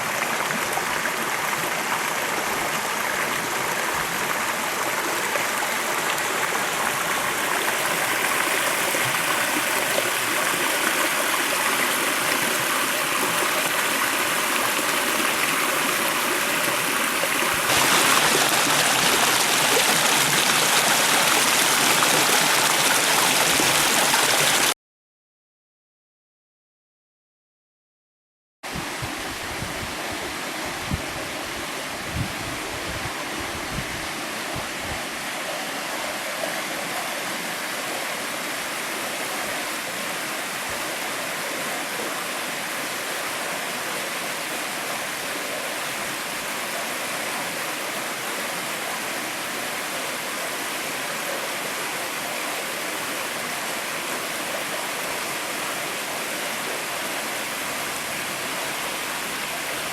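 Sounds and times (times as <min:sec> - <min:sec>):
stream rushing over rocks: 0:00.0 - 0:24.8, 0:28.7 - 0:59.9.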